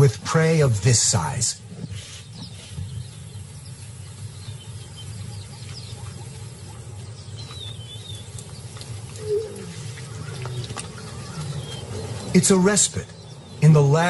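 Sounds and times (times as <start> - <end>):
low outdoor rumble: 0.0 - 14.0
faint bird chirps: 1.7 - 13.8.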